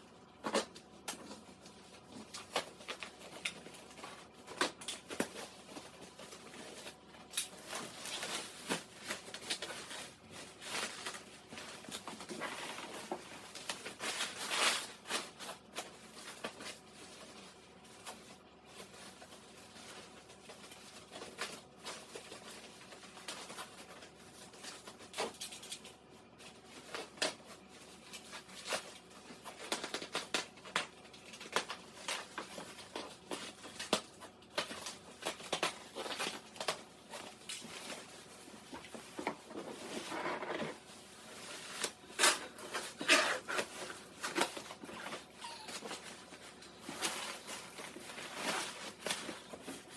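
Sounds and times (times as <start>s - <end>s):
packaging rustling: 1.2s - 49.9s.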